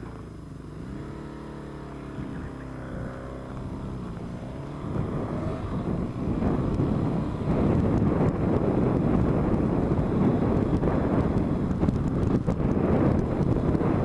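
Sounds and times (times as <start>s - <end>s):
vehicle engine driving off: 0.0s - 14.0s
wind on microphone: 0.0s - 14.0s.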